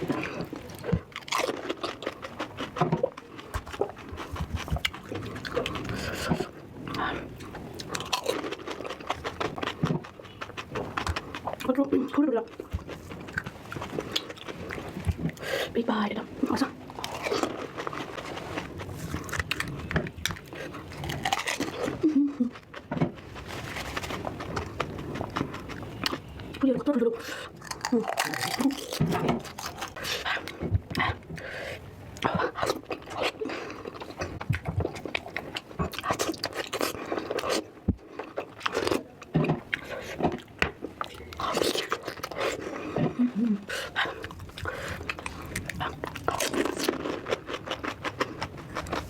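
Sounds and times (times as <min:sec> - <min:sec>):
crunching and chewing food: 0:00.0 - 0:49.0.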